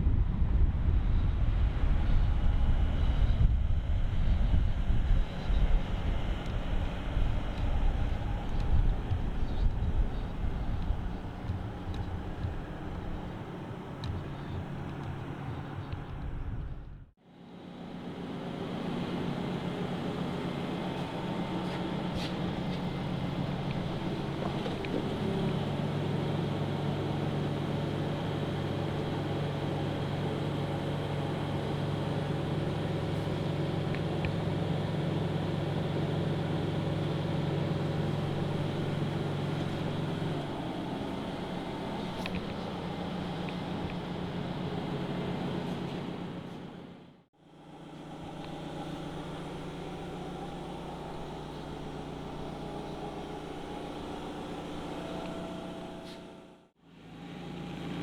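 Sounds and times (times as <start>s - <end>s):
forklift engine running: 4.5s - 58.0s.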